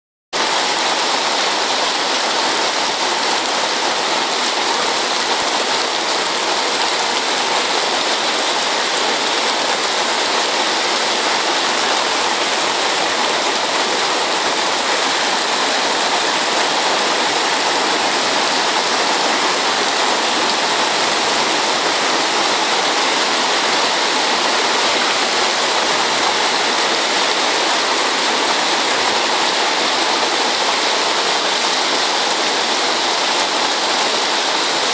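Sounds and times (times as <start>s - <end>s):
floodwater flowing: 0.4s - 34.9s
heavy rain: 0.4s - 34.9s.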